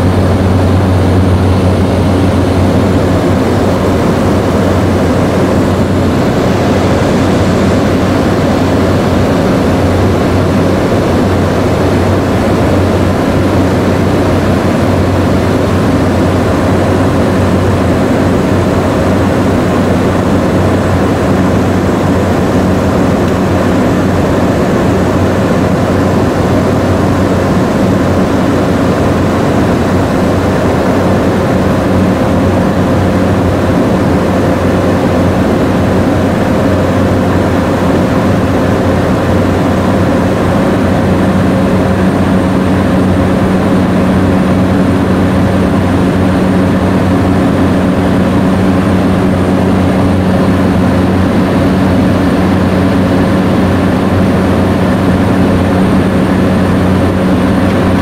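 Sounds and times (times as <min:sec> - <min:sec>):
aircraft engines droning: 0:00.0 - 0:58.0
low hum: 0:00.0 - 0:58.0.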